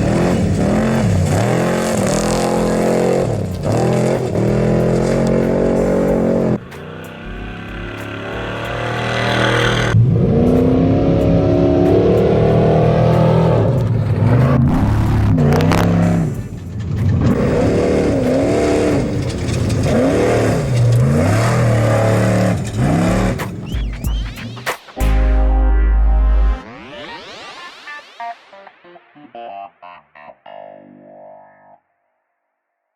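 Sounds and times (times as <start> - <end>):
truck engine revving: 0.0 - 26.7.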